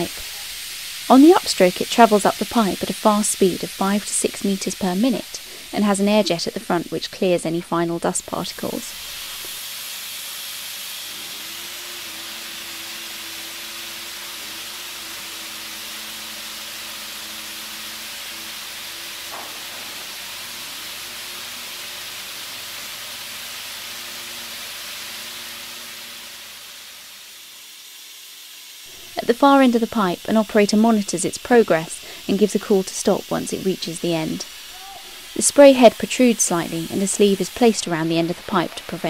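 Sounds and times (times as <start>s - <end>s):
compressed air hissing: 0.0s - 39.0s.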